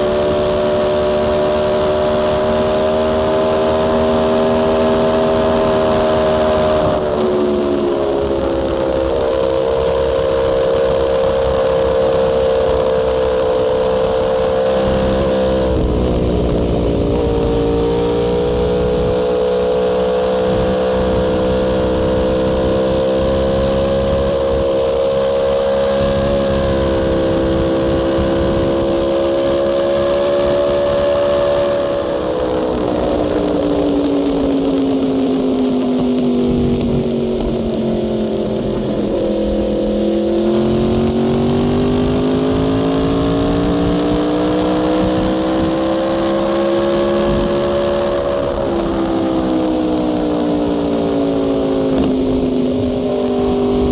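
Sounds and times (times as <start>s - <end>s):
motorcycle engine running hard: 0.0s - 53.9s.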